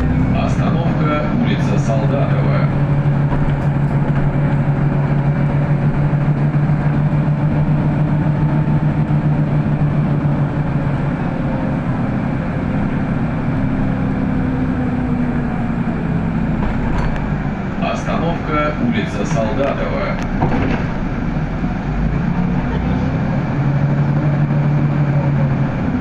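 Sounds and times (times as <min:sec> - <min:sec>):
bus engine hum: 0:00.0 - 0:26.0
road noise: 0:00.0 - 0:26.0.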